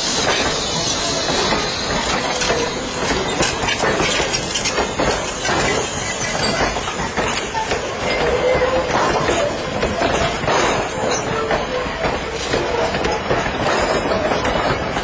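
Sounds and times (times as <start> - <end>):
rail joint clicks: 0.0 - 15.0
steel wheels rumbling on rails: 0.0 - 15.0.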